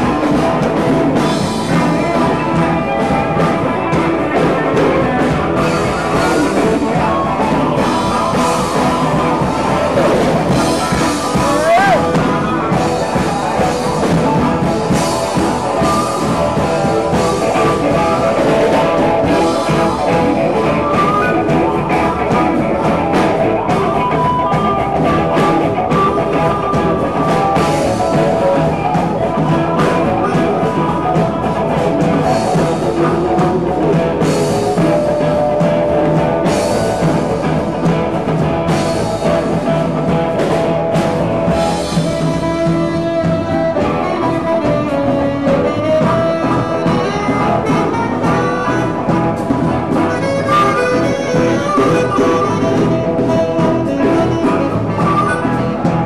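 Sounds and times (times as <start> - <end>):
electric guitar: 0.0 - 56.0
steady drum beat: 0.0 - 56.0.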